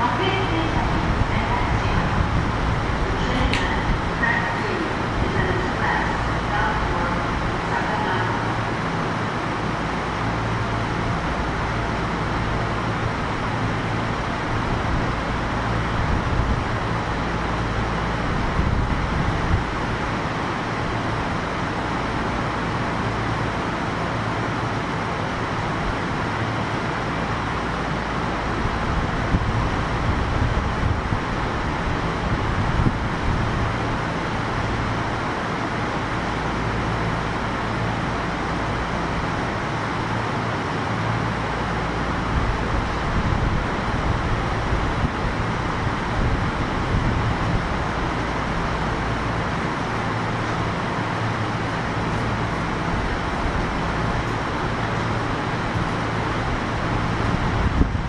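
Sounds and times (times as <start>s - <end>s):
electric train equipment hum and hiss: 0.0s - 58.0s
low hum: 0.0s - 58.0s.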